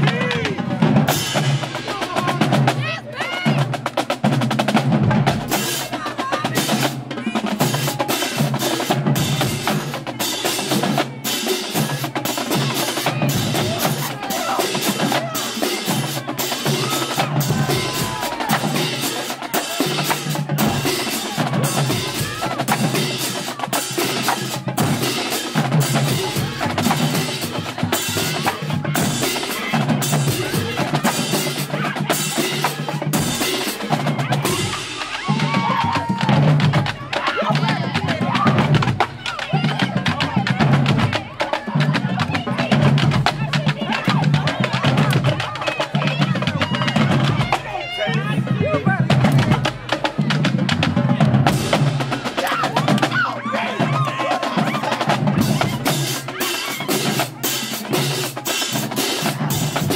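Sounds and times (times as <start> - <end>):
lower drum pattern: 0.0 - 59.9
snare drum rolls: 0.0 - 59.9.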